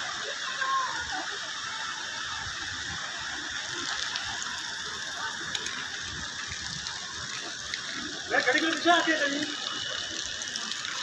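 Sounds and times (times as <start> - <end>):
water hissing on road: 0.0 - 11.0.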